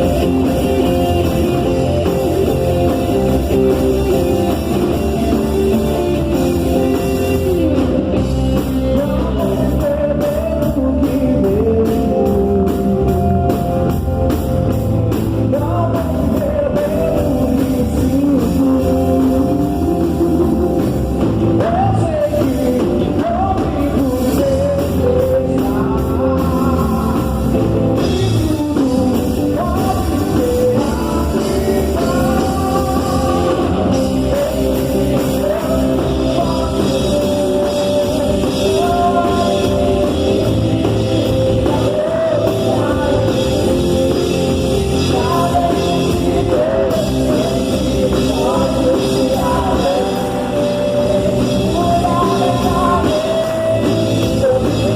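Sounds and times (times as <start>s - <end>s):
people singing: 0.0s - 13.2s, 15.5s - 54.9s
rock band playing: 0.0s - 54.9s.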